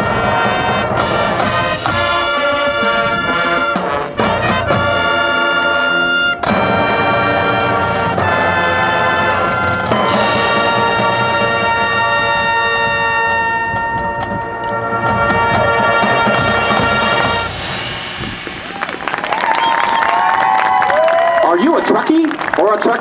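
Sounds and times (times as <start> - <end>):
marching band brass chords: 0.0 - 20.7.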